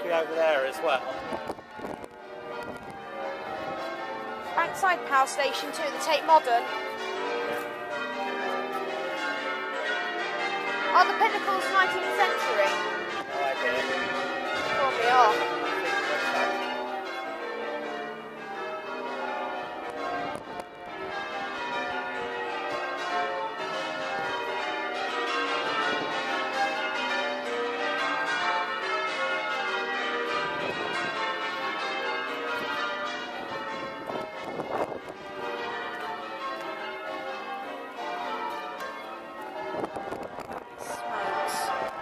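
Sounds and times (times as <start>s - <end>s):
church bells change-ringing: 0.0s - 42.0s.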